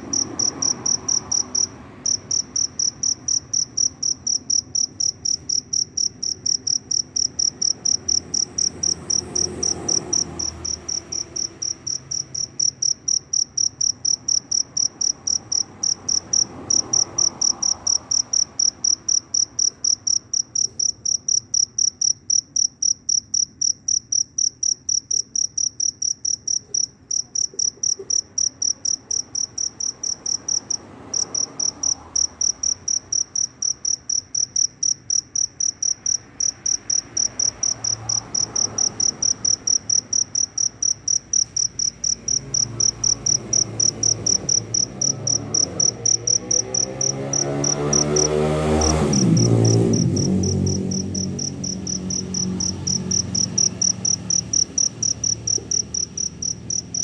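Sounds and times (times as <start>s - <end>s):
cricket chirping loudly: 0.0s - 57.0s.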